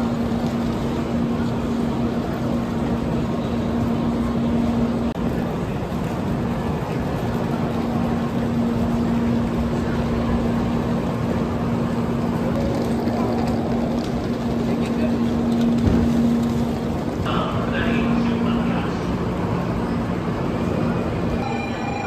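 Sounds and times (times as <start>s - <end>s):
constant low hum: 0.0s - 22.0s.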